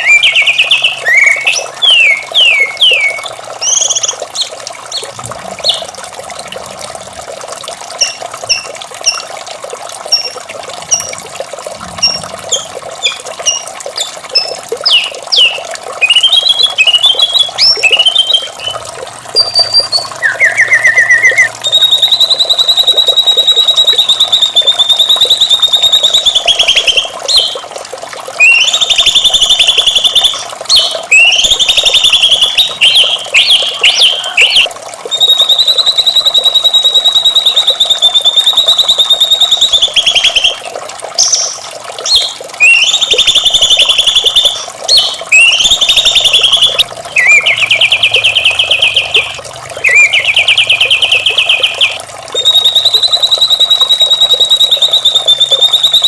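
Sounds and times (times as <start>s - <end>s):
bird singing rattling trills: 0.0s - 5.9s, 12.0s - 18.8s, 19.4s - 27.6s, 28.4s - 40.6s, 41.2s - 56.0s.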